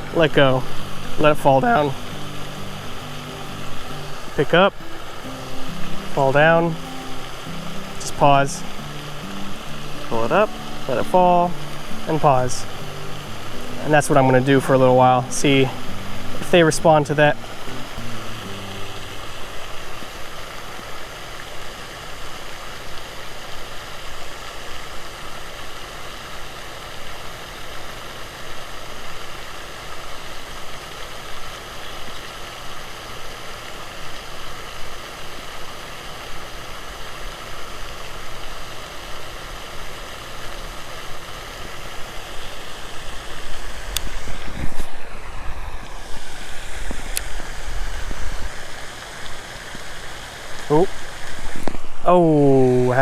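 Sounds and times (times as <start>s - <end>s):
rushing outdoor background noise: 0.0s - 53.0s.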